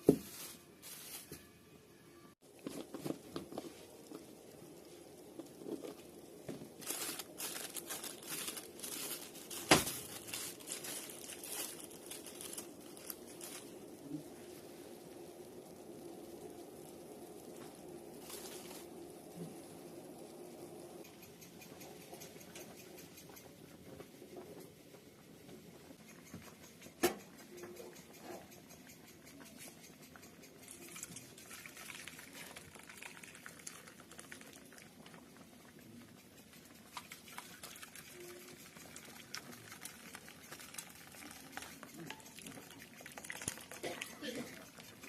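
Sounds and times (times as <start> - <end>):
water simmering in a pot: 2.6 - 45.0.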